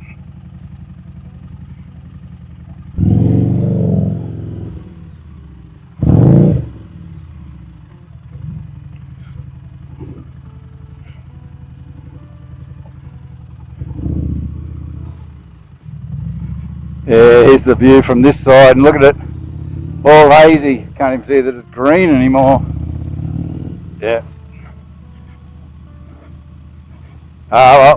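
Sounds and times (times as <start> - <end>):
motorcycle engine idling: 0.0 - 27.9
motorcycle engine revs: 0.0 - 27.9.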